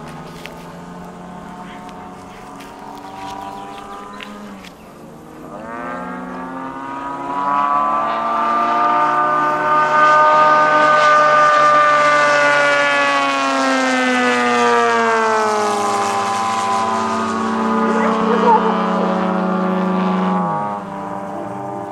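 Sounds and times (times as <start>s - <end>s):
model airplane engine buzzing: 0.0s - 21.9s.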